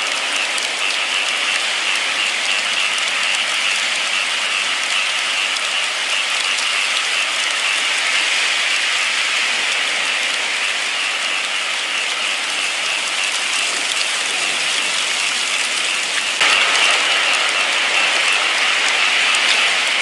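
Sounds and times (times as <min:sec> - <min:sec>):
raindrops ticking: 0:00.0 - 0:20.0
steady rain hiss: 0:00.0 - 0:20.0.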